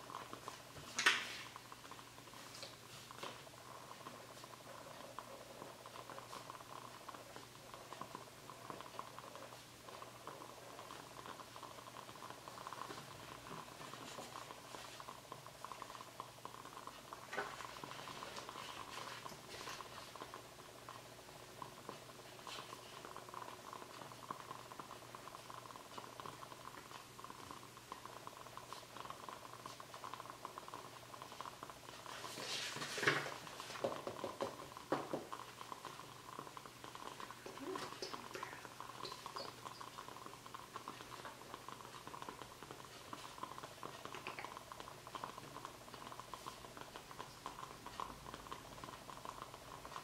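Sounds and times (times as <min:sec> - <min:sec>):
fine crackling ticks: 0:00.0 - 0:50.0.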